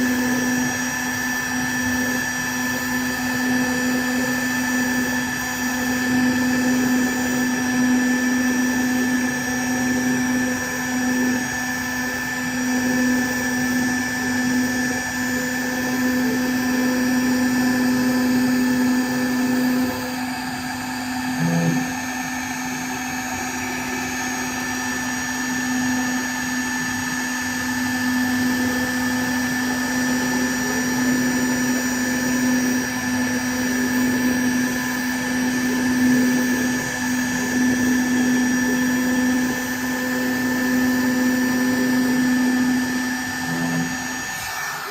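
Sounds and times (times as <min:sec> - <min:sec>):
router spindle whine: 0:00.0 - 0:44.9.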